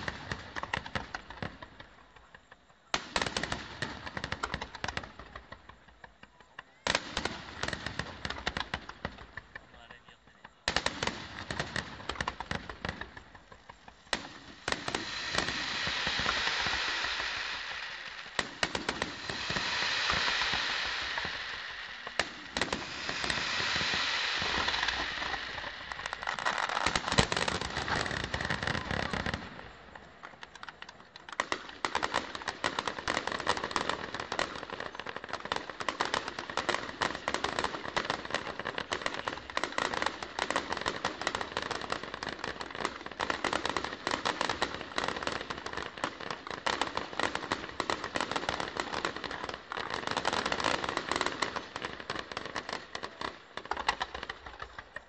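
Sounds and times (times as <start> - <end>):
fireworks bursting: 0.0 - 55.0
fireworks crackling: 0.0 - 55.0.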